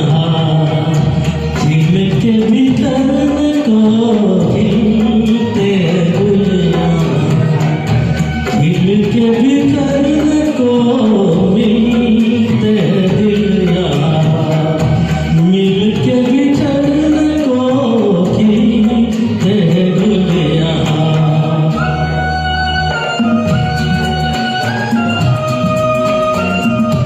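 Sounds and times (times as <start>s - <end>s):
man singing: 0.0s - 23.6s
karaoke backing track: 0.0s - 27.0s.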